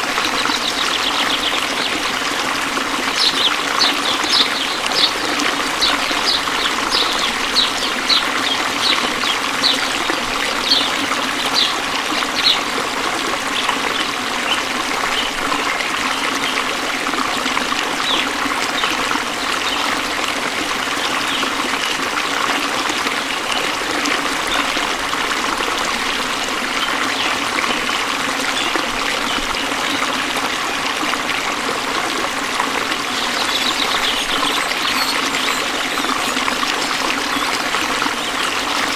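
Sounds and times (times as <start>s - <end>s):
waterfall rushing: 0.0s - 20.2s, 22.8s - 38.9s.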